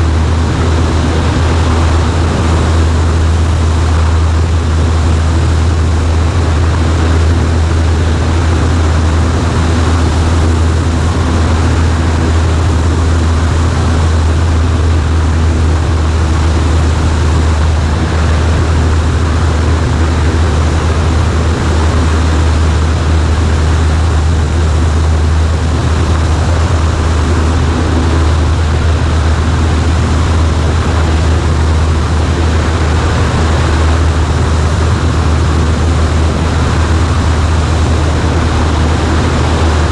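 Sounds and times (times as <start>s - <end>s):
propeller plane engine droning: 0.0s - 39.9s
rushing air: 0.0s - 39.9s.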